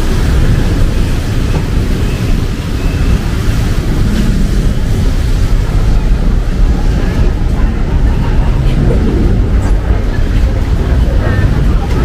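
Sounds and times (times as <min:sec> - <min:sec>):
low rumble: 0:00.0 - 0:12.0
rain hiss: 0:00.0 - 0:12.0.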